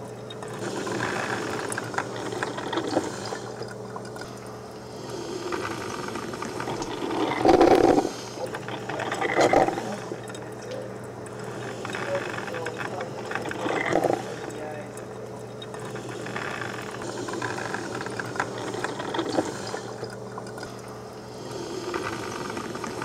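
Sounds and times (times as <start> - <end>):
coffee maker gurgling and bubbling: 0.0 - 23.0.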